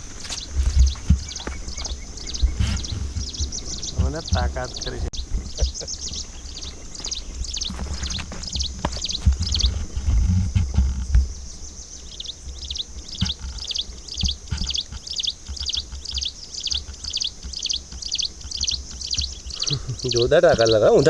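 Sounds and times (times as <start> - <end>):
bird chirping: 0.0 - 21.0
high insect-like hiss: 0.0 - 21.0.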